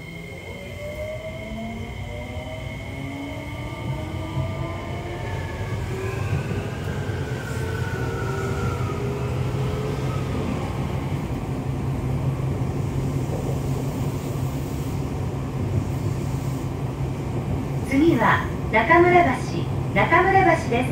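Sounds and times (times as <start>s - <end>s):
train rumbling on rails: 0.0s - 20.9s.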